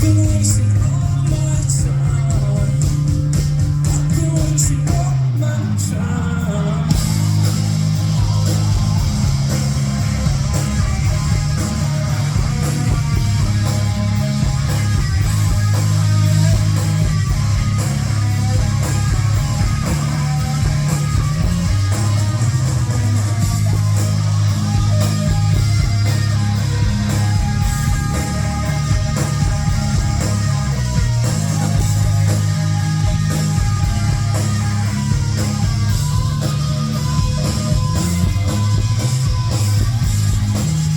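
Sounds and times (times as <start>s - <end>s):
bass guitar: 0.0s - 40.9s
distorted electric guitars: 0.0s - 40.9s
drums: 0.0s - 40.9s.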